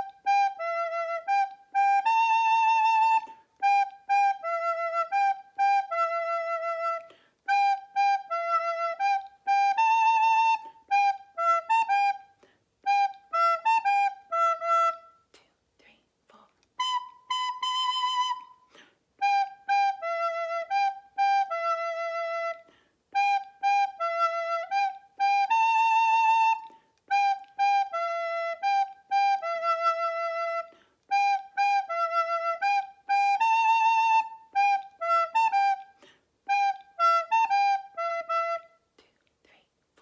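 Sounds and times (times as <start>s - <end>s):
recorder playing tune: 0.0s - 15.3s, 16.8s - 38.9s.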